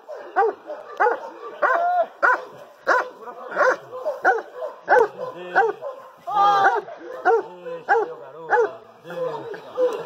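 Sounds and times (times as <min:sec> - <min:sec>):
dog barking: 0:00.1 - 0:08.8.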